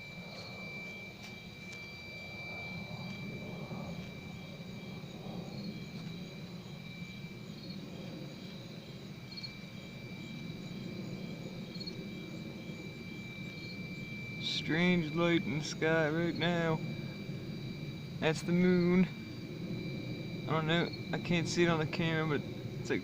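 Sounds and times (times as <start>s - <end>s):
fainter higher tone: 0.0s - 8.2s, 9.4s - 23.0s
constant low rumble: 0.0s - 23.0s
high-pitched ringing tone: 0.0s - 23.0s.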